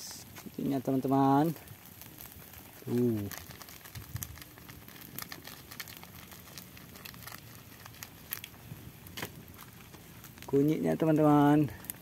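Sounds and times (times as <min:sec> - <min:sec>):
wood fire crackling: 0:00.0 - 0:12.0
plastic sachet crinkling: 0:00.4 - 0:12.0.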